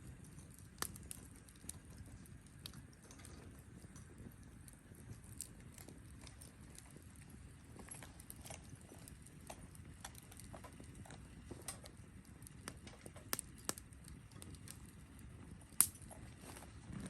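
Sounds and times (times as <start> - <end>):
campfire pops and snaps: 0.0 - 17.0
low rush of flame: 0.0 - 17.0.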